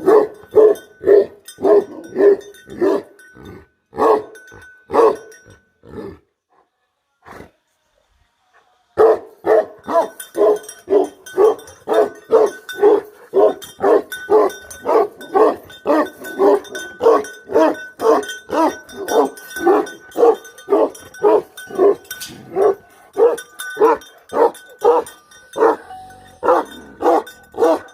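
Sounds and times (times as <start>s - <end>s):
large dog barking: 0.0s - 3.2s, 3.9s - 6.2s, 9.0s - 27.9s.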